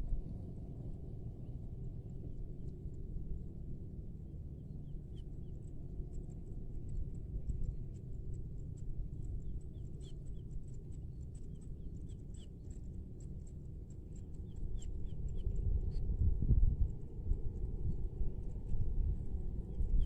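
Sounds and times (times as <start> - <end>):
steady low rumble: 0.0 - 11.7, 13.1 - 20.0.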